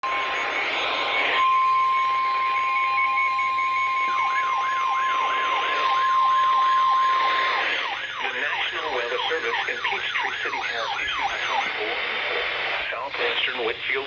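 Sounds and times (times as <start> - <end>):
fast siren yelp: 0.0 - 11.7
steady single-pitch alert tone: 0.0 - 11.7
harsh data burst: 0.0 - 13.7.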